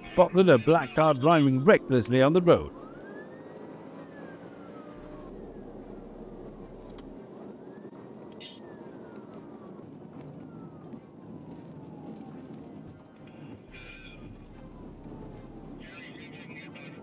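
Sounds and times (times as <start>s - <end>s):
muffled police siren wailing: 0.0s - 17.0s
road and engine noise: 0.0s - 17.0s.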